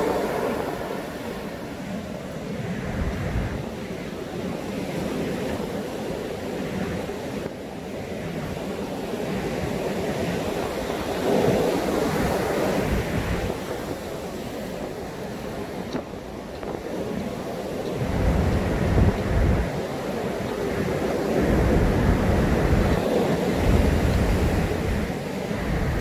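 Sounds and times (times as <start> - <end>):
surf breaking on a beach: 0.0 - 26.0
wind buffeting microphone: 0.0 - 26.0.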